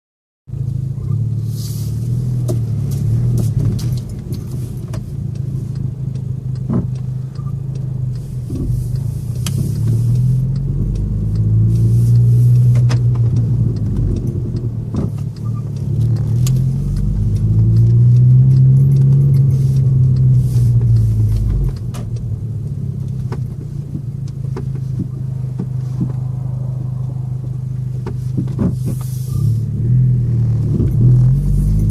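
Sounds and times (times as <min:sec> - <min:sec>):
car engine revving: 0:00.5 - 0:31.9.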